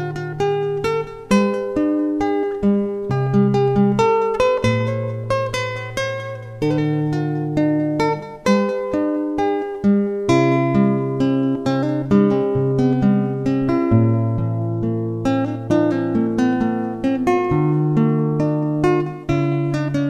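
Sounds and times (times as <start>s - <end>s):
plucked acoustic guitar: 0.0s - 20.0s.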